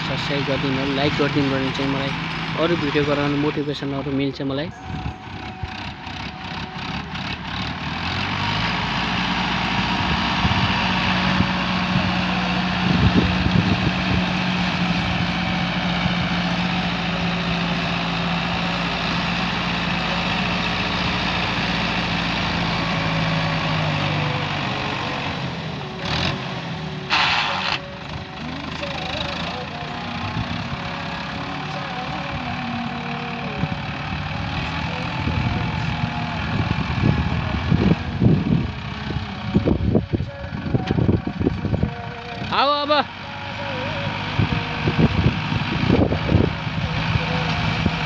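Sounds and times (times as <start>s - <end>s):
tractor engine under load: 0.0s - 48.0s.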